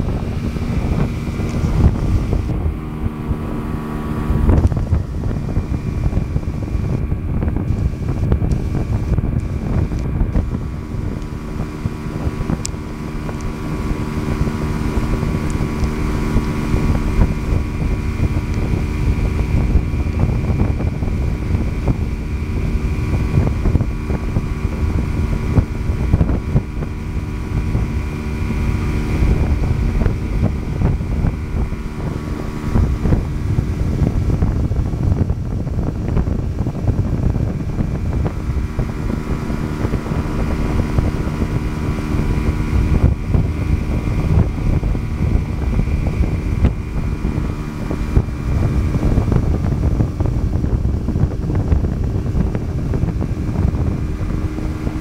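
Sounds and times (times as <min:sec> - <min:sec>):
boat engine running: 0:00.0 - 0:55.0
wind rumbling on microphone: 0:00.0 - 0:55.0.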